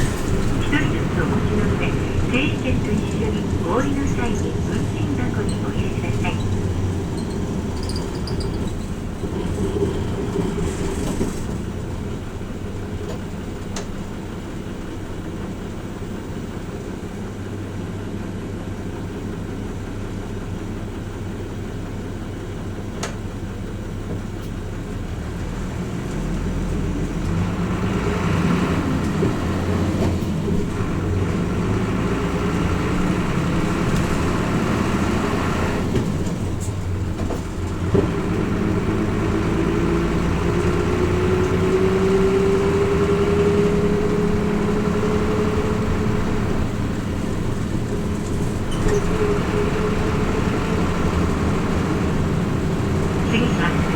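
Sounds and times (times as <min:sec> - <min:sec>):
bus engine hum: 0:00.0 - 0:53.9
road rumble: 0:00.0 - 0:53.9.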